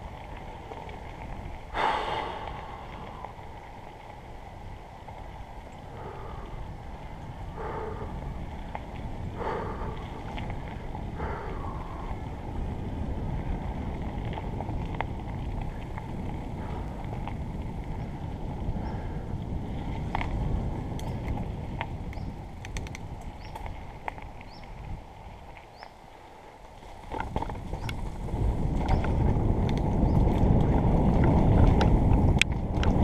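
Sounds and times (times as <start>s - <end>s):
bike tyres crunching on gravel: 0.0s - 33.0s
stones and bike rattling: 0.0s - 33.0s.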